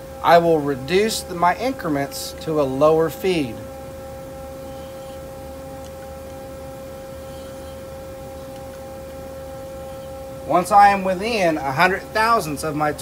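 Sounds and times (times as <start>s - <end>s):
machine hum with held tone: 0.0s - 13.0s.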